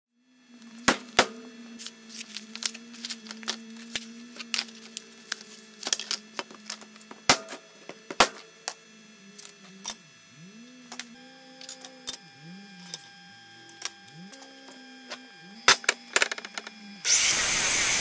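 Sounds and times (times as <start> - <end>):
steady hum: 0.3 - 18.0.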